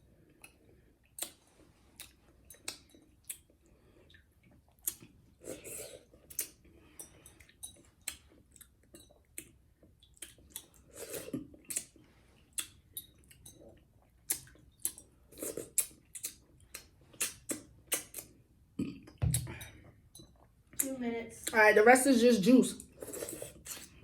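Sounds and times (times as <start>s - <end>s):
person chewing with smacking: 0.2s - 21.6s, 22.8s - 24.0s.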